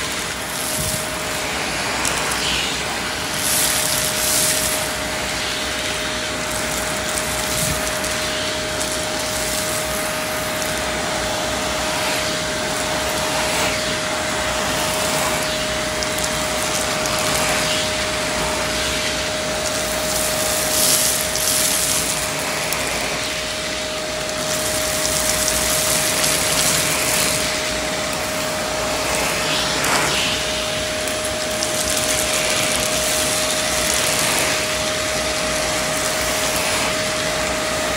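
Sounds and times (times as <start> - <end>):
debris rattling up nozzle: 0.0 - 37.9
vacuum cleaner running: 0.0 - 37.9.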